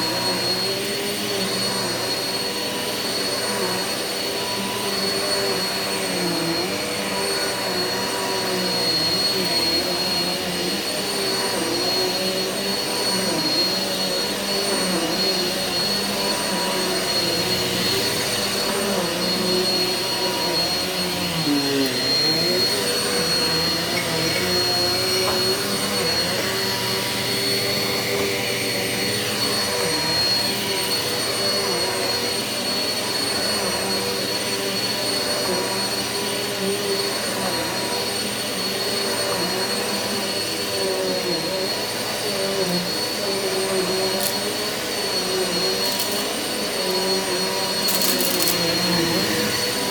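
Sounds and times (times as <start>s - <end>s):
vacuum cleaner running on carpet: 0.0s - 49.9s.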